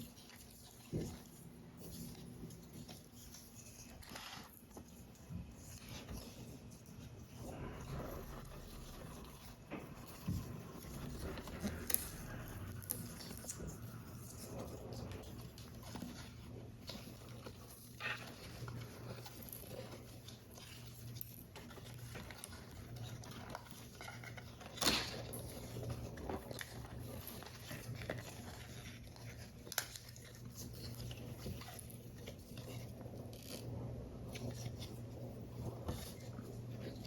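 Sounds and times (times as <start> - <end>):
card and paper rustling: 0.0 - 37.0
steady low hum: 5.1 - 37.0.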